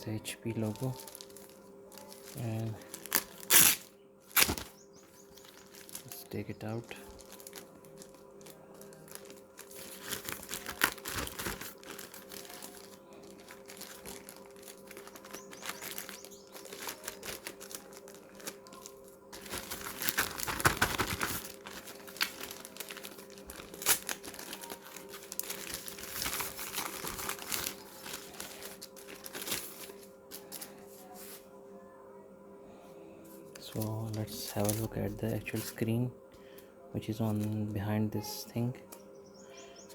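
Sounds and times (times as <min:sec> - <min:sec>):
packaging wrap crinkling: 0:00.1 - 0:31.4, 0:33.6 - 0:36.0.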